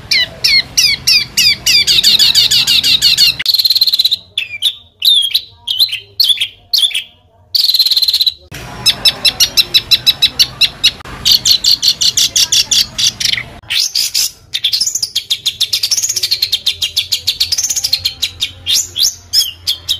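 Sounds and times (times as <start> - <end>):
songbird singing: 0.0 - 19.9.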